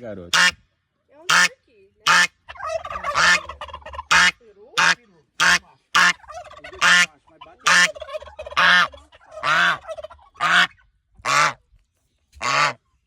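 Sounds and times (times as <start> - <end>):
goose honking: 0.3 - 0.6, 1.3 - 11.6, 12.4 - 12.8.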